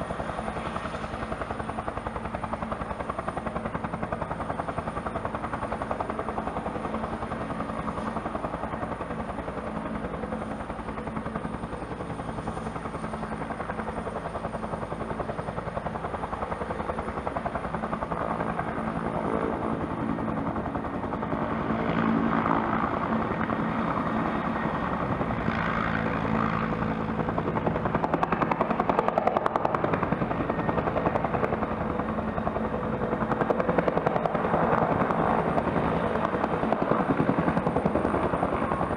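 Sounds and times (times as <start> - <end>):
helicopter rotor chop: 0.0 - 38.9
helicopter turbine: 0.0 - 38.9.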